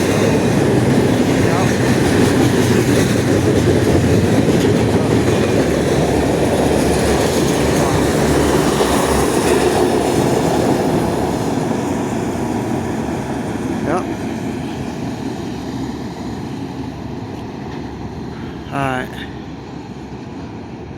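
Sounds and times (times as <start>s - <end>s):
train wheels clacking on rails: 0.0s - 18.6s.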